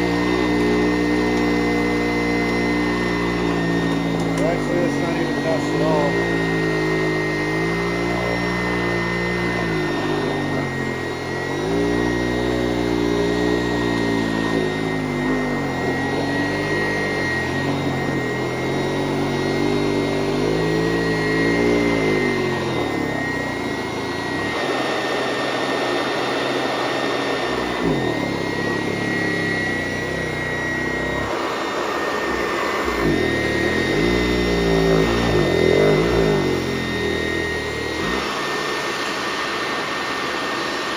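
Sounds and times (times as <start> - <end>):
vacuum cleaner running on carpet: 0.0 - 40.9.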